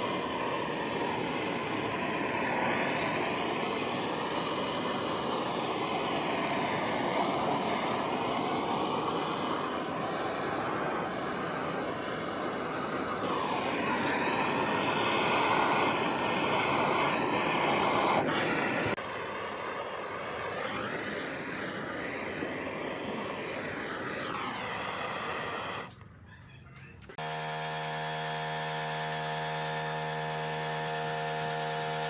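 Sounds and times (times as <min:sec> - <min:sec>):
power tool whining: 0:00.0 - 0:26.0, 0:27.0 - 0:32.0.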